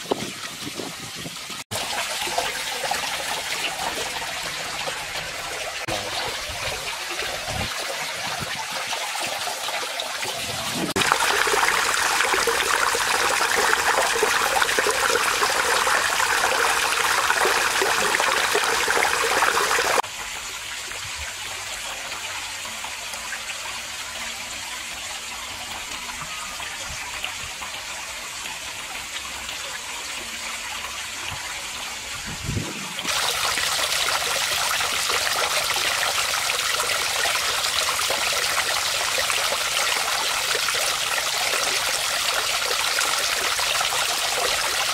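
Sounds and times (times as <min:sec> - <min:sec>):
water splashing into pond: 0:00.0 - 0:44.9.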